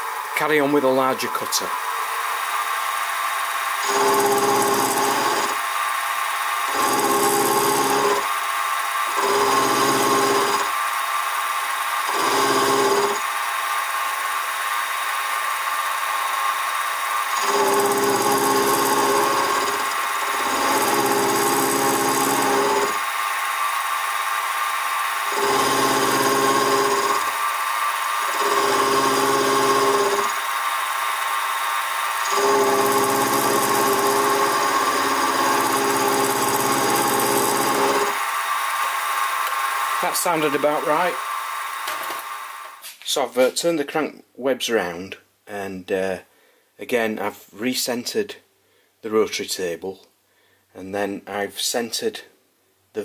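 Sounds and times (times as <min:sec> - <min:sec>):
end mill cutting metal: 0:00.0 - 0:42.8
milling machine motor whine: 0:00.0 - 0:42.8.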